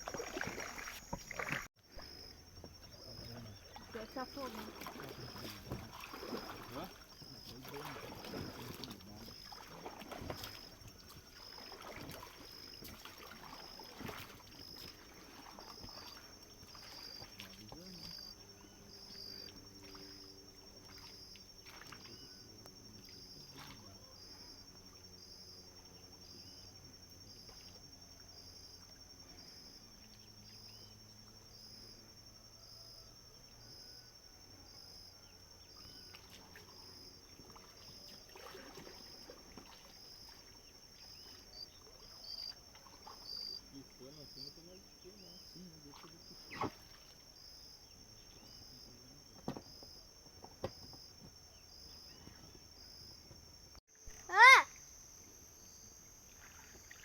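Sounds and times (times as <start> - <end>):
insect chirp: 0.0 - 57.0
insects trilling: 0.0 - 57.0.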